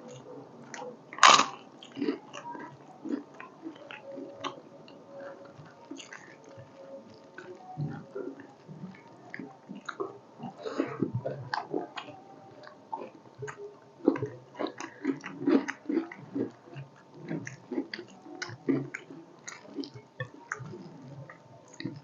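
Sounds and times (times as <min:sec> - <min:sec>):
people chewing and biting: 0:00.0 - 0:22.0.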